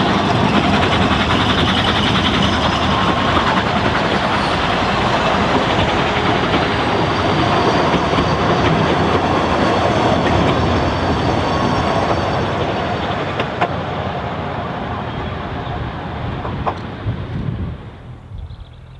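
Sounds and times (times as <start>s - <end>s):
train wheels rattling on rails: 0.0s - 18.9s.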